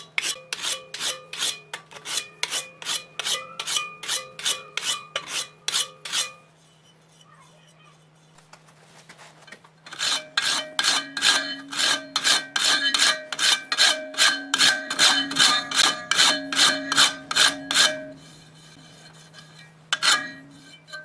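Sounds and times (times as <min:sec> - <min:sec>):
sharpening tool scraping steel blade: 0:00.0 - 0:08.3, 0:09.9 - 0:21.0.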